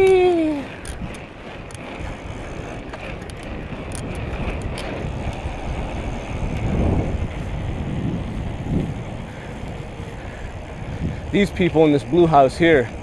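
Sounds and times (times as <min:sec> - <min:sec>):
bicycle tyre road rumble: 0:00.0 - 0:13.0
wind rushing over microphone: 0:00.0 - 0:13.0.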